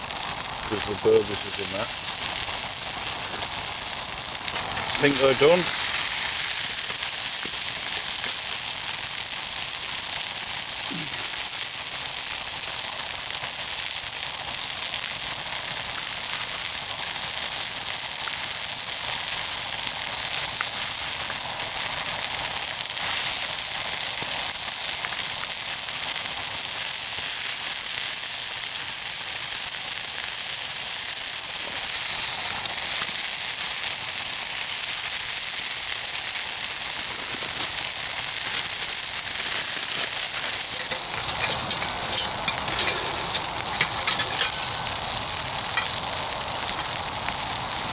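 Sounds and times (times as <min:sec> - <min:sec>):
burgers sizzling: 0:00.0 - 0:47.9.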